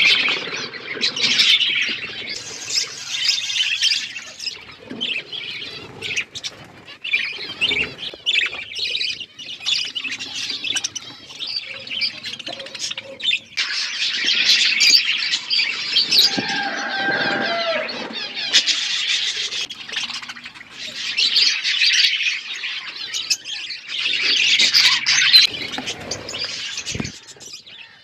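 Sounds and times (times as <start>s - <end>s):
budgerigars chattering: 1.2s - 15.1s, 18.6s - 28.0s.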